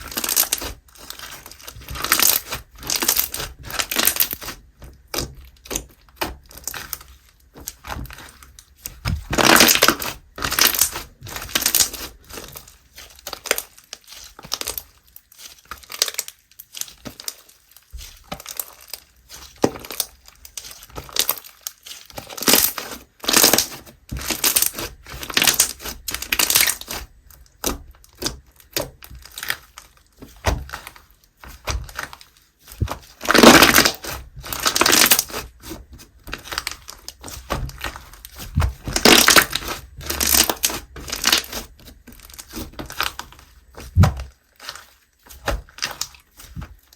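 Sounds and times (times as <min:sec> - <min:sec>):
slime squelching and popping: 0:00.0 - 0:46.9.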